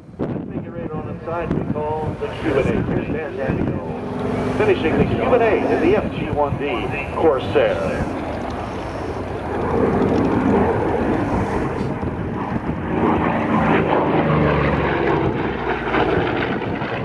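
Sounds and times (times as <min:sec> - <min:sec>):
propeller plane engine in flight: 0:00.0 - 0:17.0.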